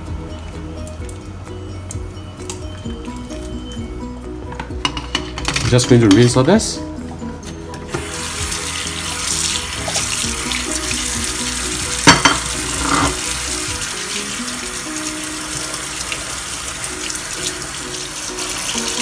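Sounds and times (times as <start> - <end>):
tap water running: 0.0 - 6.5, 7.7 - 19.0.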